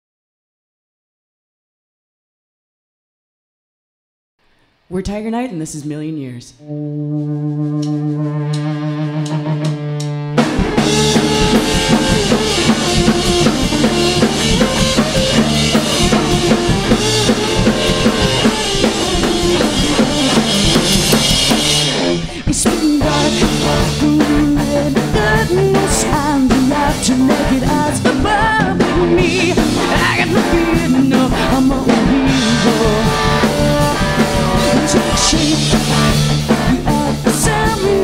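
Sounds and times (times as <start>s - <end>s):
rock band playing: 6.6s - 38.0s.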